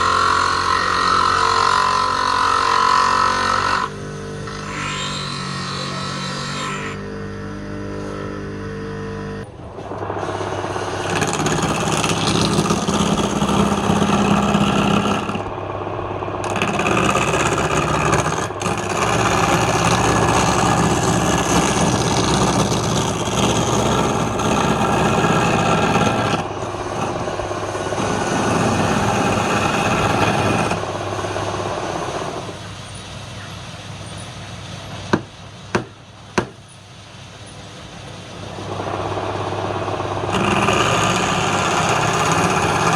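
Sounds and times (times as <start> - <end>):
turning tool cutting wood: 0.0 - 15.5, 16.4 - 32.6, 38.7 - 42.9
wood lathe motor hum: 0.0 - 15.6, 16.3 - 32.6, 38.6 - 42.9.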